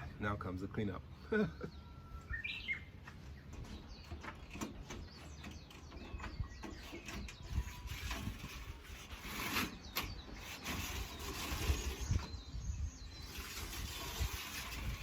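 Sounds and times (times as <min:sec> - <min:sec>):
bird chirping: 0:01.0 - 0:15.0.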